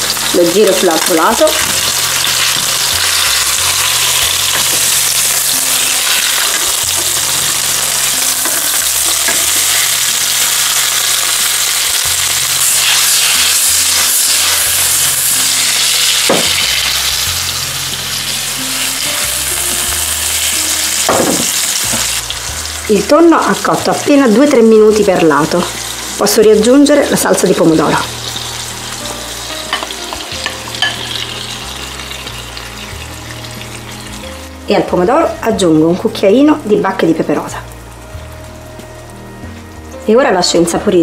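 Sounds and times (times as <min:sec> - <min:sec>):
fish sizzling in hot oil: 0:00.0 - 0:40.6.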